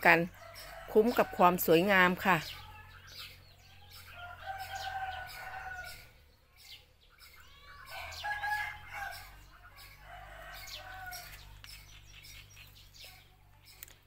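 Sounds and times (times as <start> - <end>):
roosters crowing: 0.0 - 13.4
small birds chirping: 0.0 - 14.0.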